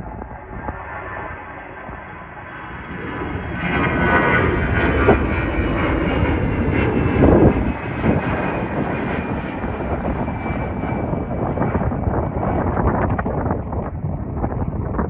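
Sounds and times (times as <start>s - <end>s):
jet airliner passing: 0.0s - 15.0s.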